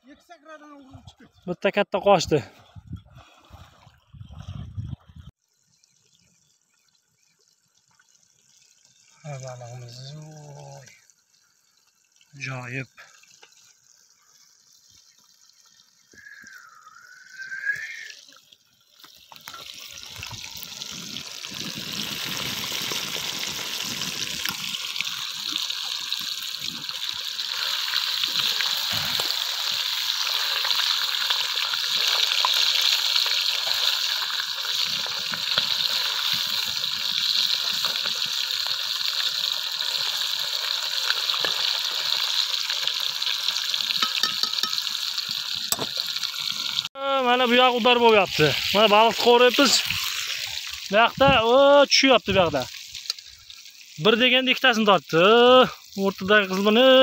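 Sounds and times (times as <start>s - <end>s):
fish frying in hot oil: 5.4s - 57.0s.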